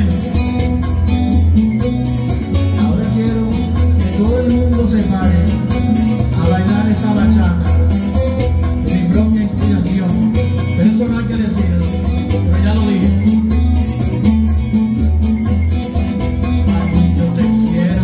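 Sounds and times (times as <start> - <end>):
plucked guitar melody: 0.0 - 18.0
pulsing bass beat: 0.0 - 18.0.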